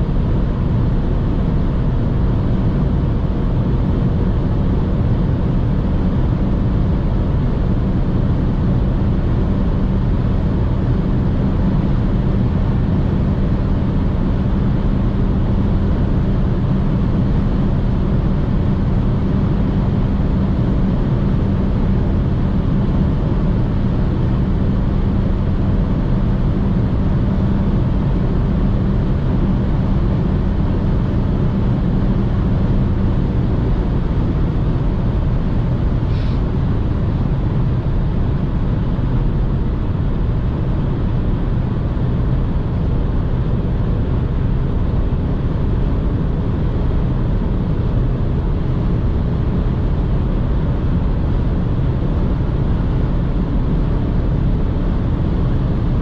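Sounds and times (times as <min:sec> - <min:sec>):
car engine at high revs: 0:00.0 - 0:56.0
wind and road noise: 0:00.0 - 0:56.0.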